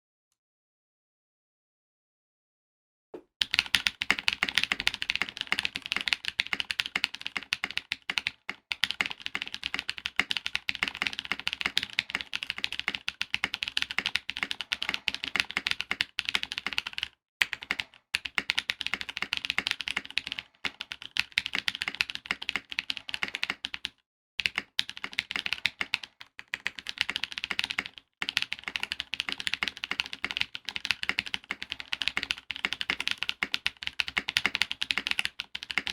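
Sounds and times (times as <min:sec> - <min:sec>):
fast typing on mechanical keyboard: 0:03.4 - 0:35.9.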